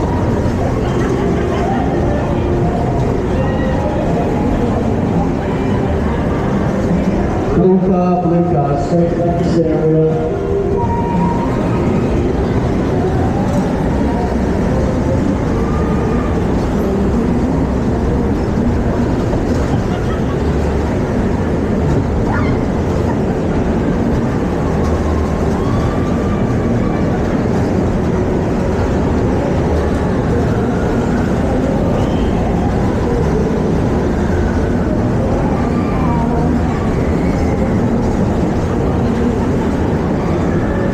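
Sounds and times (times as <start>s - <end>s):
dodgem car rumbling: 0.0s - 40.9s
faint voices: 0.0s - 40.9s.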